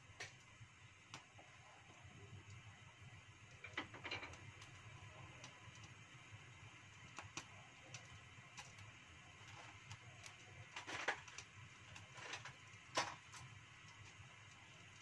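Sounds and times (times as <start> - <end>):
low steady hum: 0.0 - 15.0
oil ticking and popping: 0.0 - 15.0.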